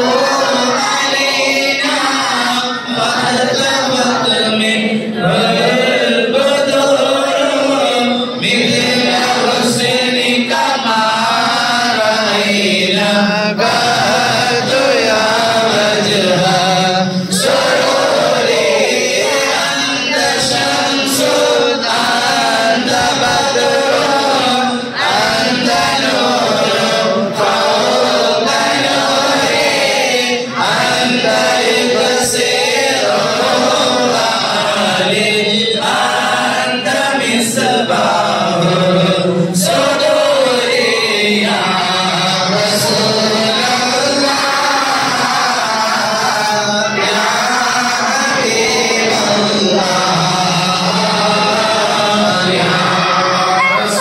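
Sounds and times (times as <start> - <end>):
group of voices chanting: 0.0 - 54.0.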